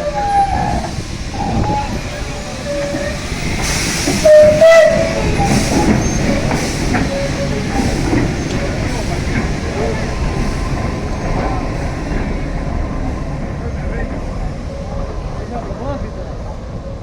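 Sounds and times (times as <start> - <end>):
locomotive rumbling on track: 0.0 - 17.0.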